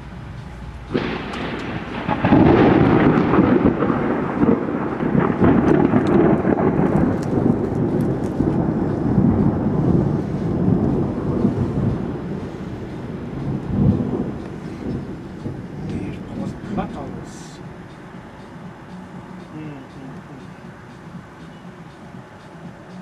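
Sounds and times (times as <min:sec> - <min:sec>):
thunder rumbling: 0:00.7 - 0:21.3.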